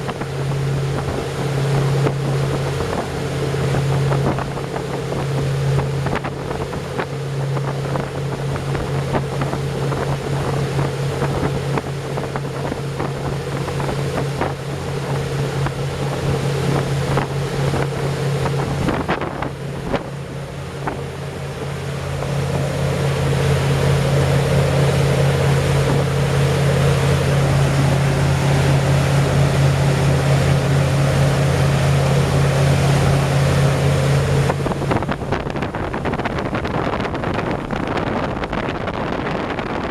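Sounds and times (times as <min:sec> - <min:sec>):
boat engines humming: 0:00.0 - 0:39.9
water rushing along hull: 0:00.0 - 0:39.9
wind buffeting microphone: 0:00.0 - 0:39.9.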